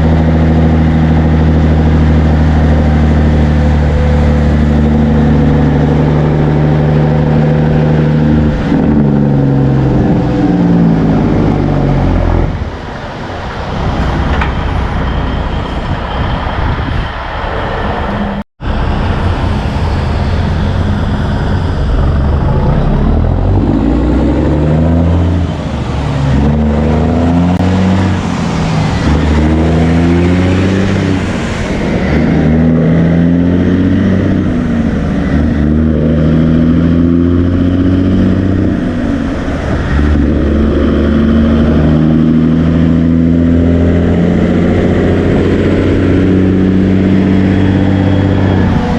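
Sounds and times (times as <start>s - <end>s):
heavy truck engines shifting gears: 0.0s - 48.9s.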